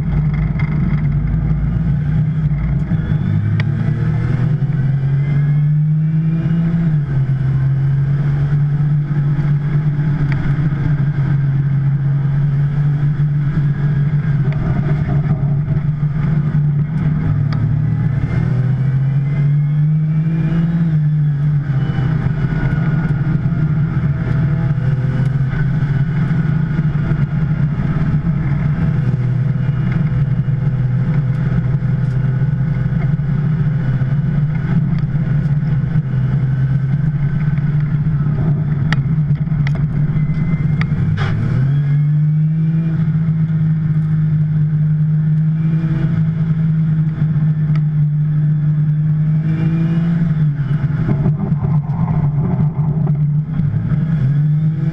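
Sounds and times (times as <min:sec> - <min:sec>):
race car engine accelerating: 0:00.0 - 0:54.9.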